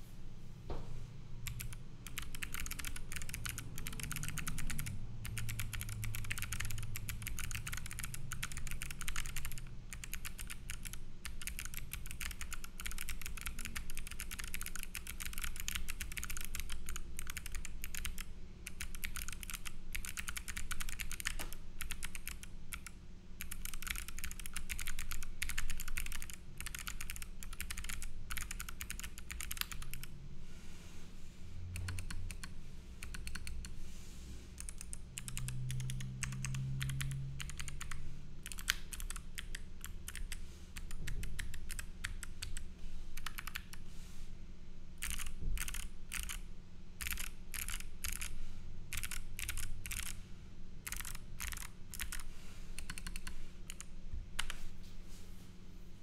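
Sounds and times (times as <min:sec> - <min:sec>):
clicky mechanical keyboard typing: 0:01.4 - 0:30.1, 0:31.7 - 0:33.8, 0:34.6 - 0:43.8, 0:45.0 - 0:46.4, 0:47.0 - 0:50.2, 0:50.8 - 0:54.6.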